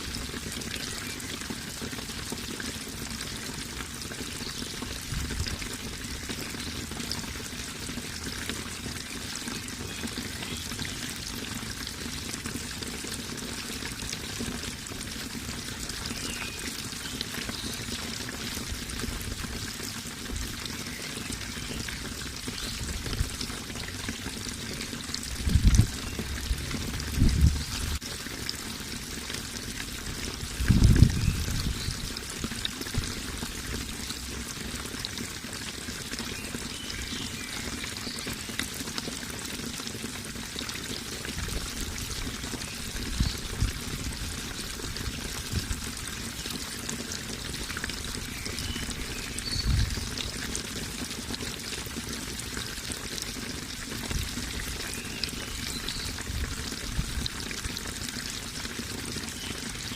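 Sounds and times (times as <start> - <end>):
water pouring and trickling: 0.0 - 59.9.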